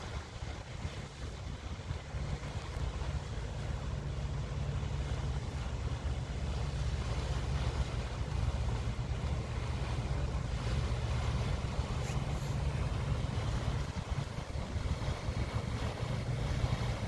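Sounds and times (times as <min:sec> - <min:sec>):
diesel engine low drone: 0:00.0 - 0:17.0.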